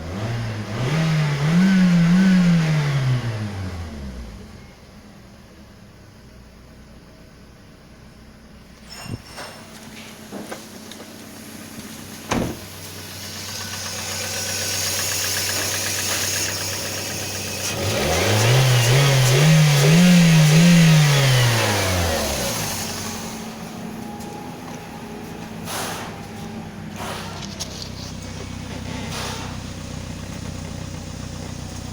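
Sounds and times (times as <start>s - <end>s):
car engine idling and revving: 0.0s - 9.0s, 9.8s - 31.9s.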